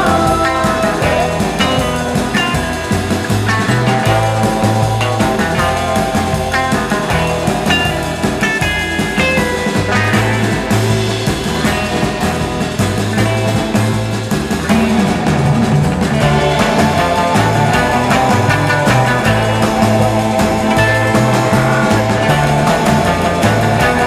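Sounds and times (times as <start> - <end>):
rock music: 0.0 - 24.0.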